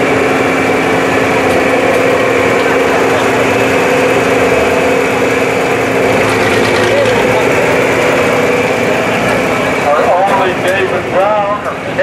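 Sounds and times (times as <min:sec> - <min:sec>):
tractor engine droning: 0:00.0 - 0:12.0
faint crowd voices: 0:02.0 - 0:12.0.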